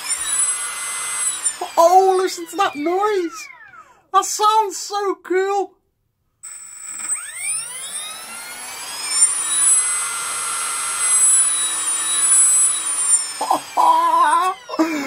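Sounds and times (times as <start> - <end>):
electric motor whine: 0.0 - 3.9, 6.4 - 15.0.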